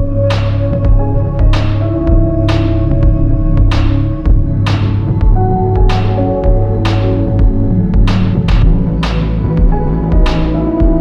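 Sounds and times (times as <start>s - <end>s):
sustained low notes: 0.0s - 11.0s.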